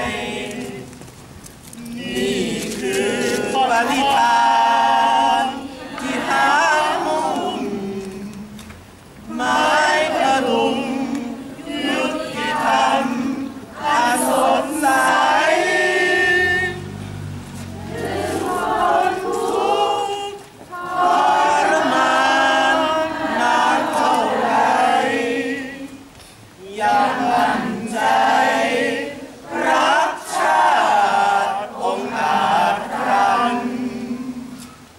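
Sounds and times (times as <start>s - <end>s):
crowd singing in unison: 0.0s - 34.9s.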